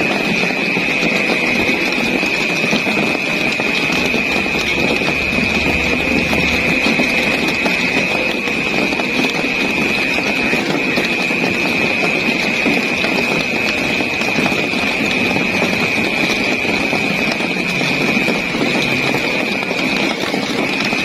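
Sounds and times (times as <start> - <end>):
constant high-pitched tone: 0.0 - 21.0.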